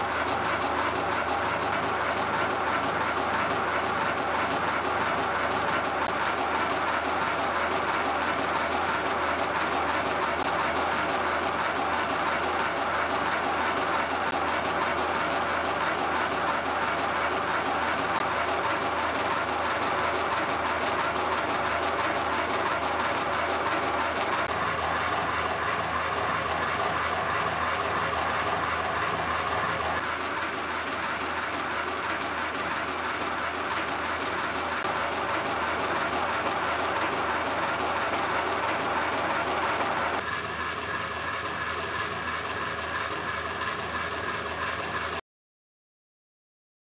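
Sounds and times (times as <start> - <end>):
high machine whine: 0.0 - 45.2
milling machine whirring: 0.0 - 45.2.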